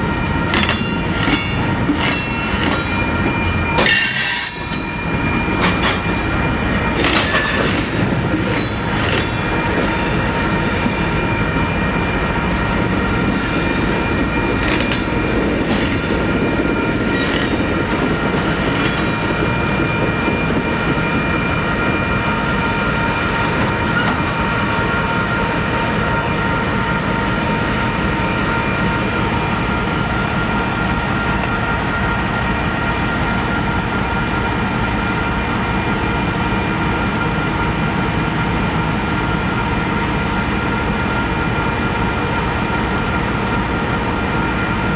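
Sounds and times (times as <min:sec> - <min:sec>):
train rumble: 0:00.0 - 0:44.9
train wheels squealing: 0:00.0 - 0:44.9.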